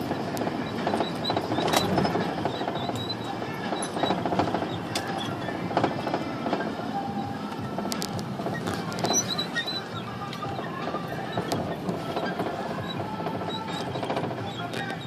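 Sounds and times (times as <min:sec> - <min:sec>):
rattles and knocks of van body: 0:00.0 - 0:15.0
van engine and road noise: 0:00.0 - 0:15.0.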